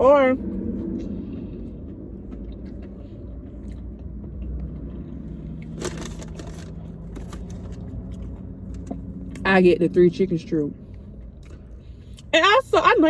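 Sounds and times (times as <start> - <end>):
low steady rumble: 0.0 - 13.0
chewing and eating noises: 0.4 - 12.3.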